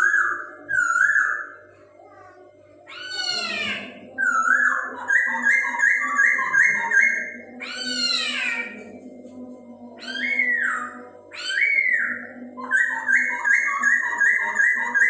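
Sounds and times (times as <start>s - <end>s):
bird singing: 0.0s - 1.7s, 2.8s - 9.0s, 9.8s - 15.0s.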